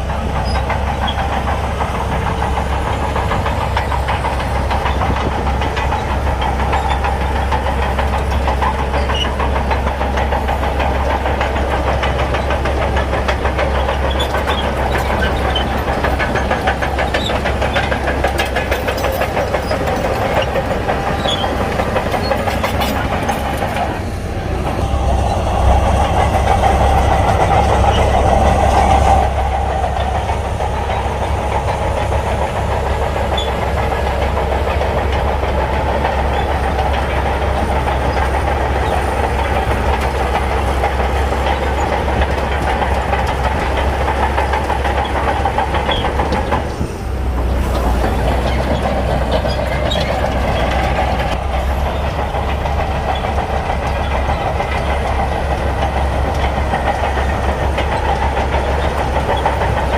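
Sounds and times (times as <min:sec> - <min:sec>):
bulldozer diesel engine running: 0:00.0 - 0:59.9
steel tracks clattering: 0:00.0 - 0:59.9.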